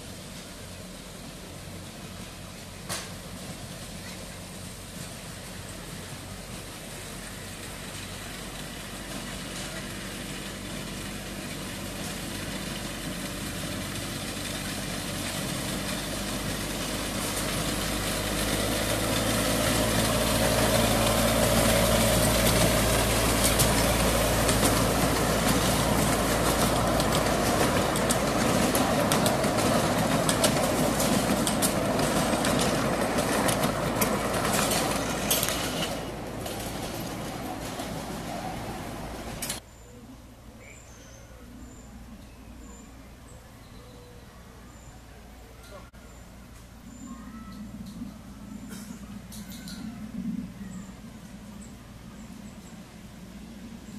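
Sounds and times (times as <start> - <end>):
miniature train engine: 0.0 - 39.6, 45.6 - 50.3
wheels on track: 0.0 - 53.9.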